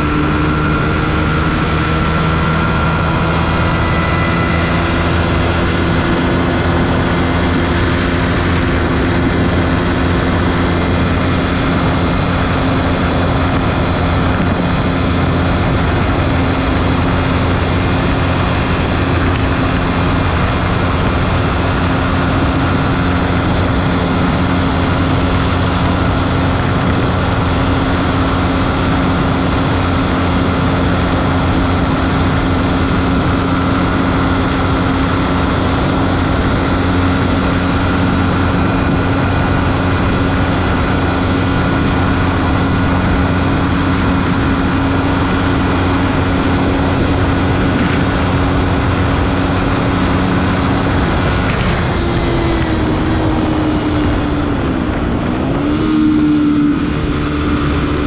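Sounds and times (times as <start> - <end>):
motorcycle engine revving: 0.0 - 58.0
rushing noise: 0.0 - 58.0.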